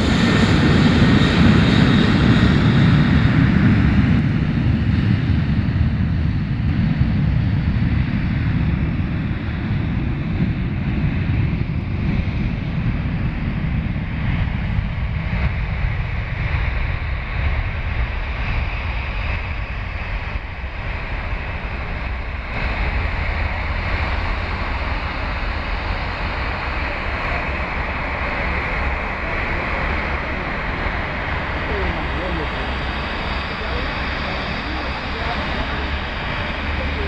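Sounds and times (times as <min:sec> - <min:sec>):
jet engine roar: 0:00.0 - 0:37.0
wind buffeting microphone: 0:00.0 - 0:37.0.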